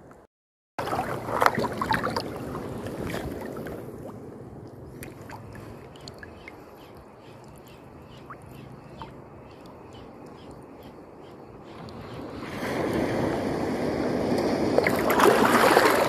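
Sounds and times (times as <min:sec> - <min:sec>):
sea water sloshing and splashing: 0:00.8 - 0:10.7, 0:11.7 - 0:16.0.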